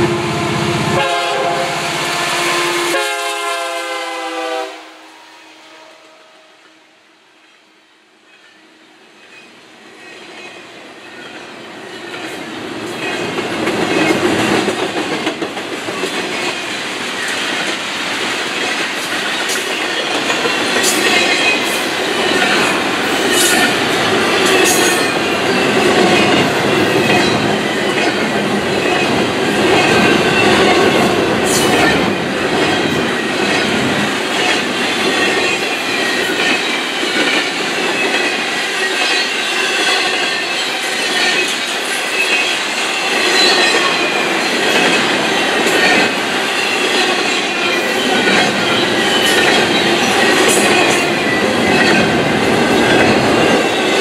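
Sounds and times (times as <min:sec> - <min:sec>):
train wheels rolling on rails: 0:08.3 - 0:54.0.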